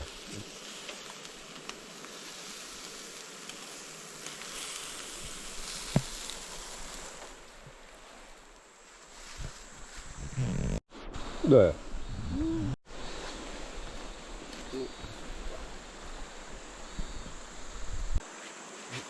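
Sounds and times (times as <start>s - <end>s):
forest insects hissing: 0.0s - 19.0s.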